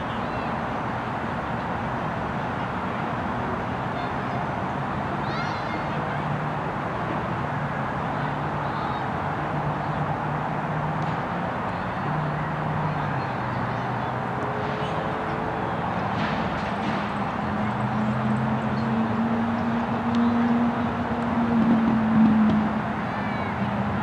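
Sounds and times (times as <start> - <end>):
distant traffic hum: 0.0 - 24.0.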